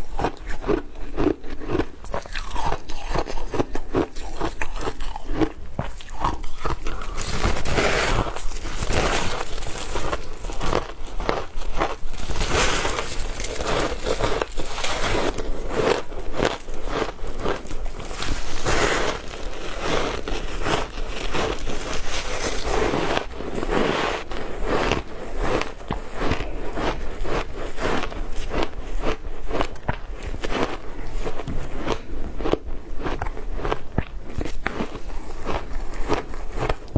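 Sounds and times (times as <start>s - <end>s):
chewing crunchy ice: 0.0s - 36.9s.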